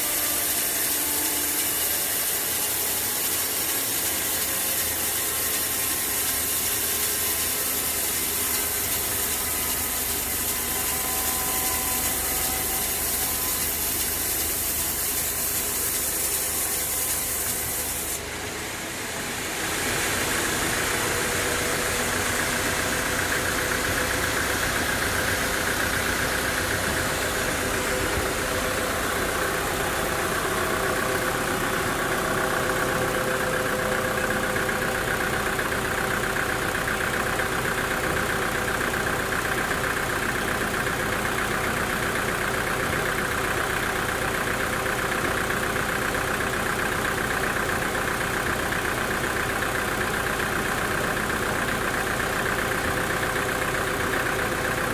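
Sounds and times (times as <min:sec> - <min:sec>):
sawmill machinery drone and whine: 0:00.0 - 0:54.9.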